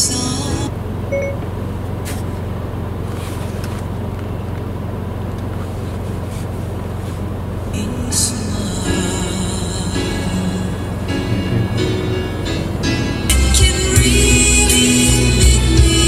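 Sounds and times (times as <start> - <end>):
car engine idling from cabin: 0.0 - 16.0.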